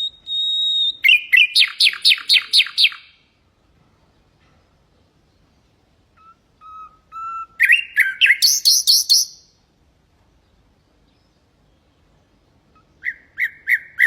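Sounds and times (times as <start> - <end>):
nightingale singing: 0.0 - 3.5, 4.1 - 9.7, 10.4 - 14.0.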